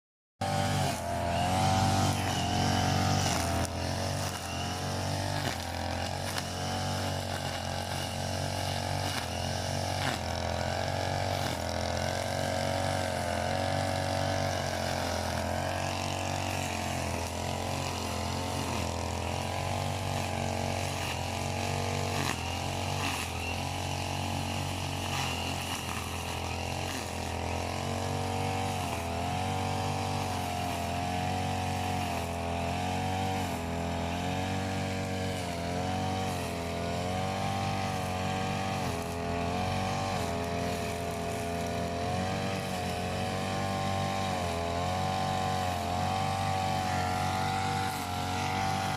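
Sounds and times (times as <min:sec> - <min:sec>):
brush cutter engine running: 0:00.4 - 0:48.9.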